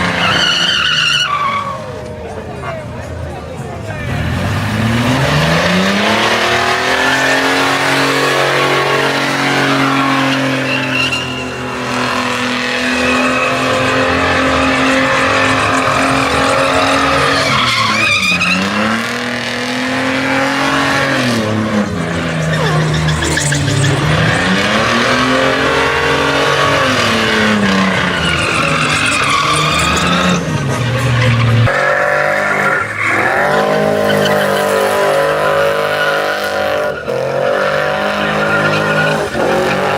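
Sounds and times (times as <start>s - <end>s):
tyres spinning and squealing: 0.0s - 39.9s
truck engine revving: 3.1s - 39.9s.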